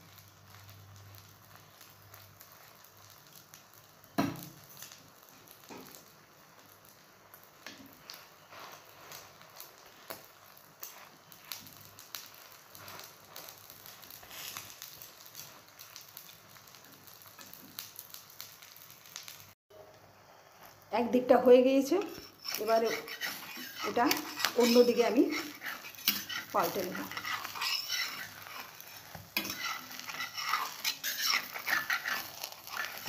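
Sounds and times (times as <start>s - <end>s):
egg frying in oil: 0.0s - 33.0s.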